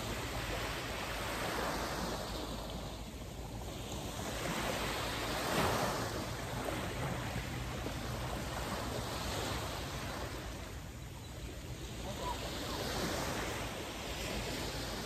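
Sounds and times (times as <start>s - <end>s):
small waves washing on sand: 0.0s - 15.0s.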